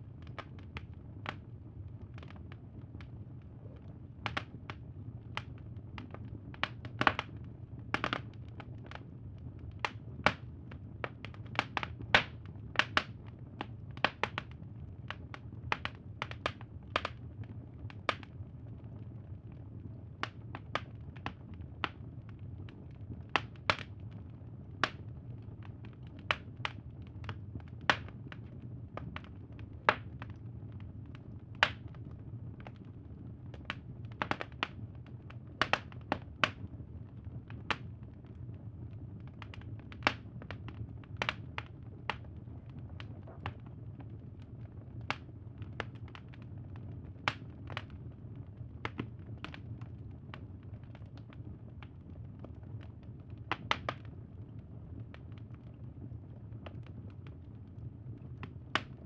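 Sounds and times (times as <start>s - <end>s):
low rumble of burning wood: 0.0s - 59.0s
campfire crackling and popping: 0.1s - 59.0s.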